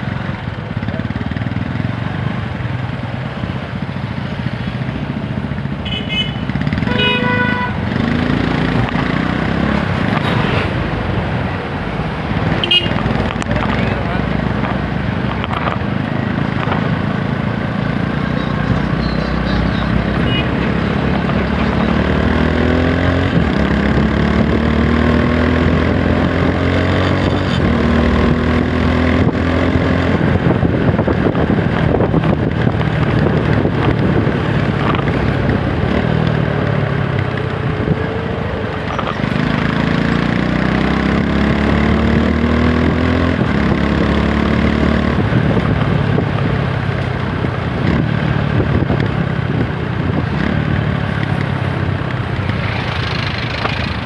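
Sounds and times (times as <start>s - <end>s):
motorcycle engine revving: 0.0s - 54.0s
road and wind noise: 0.0s - 54.0s.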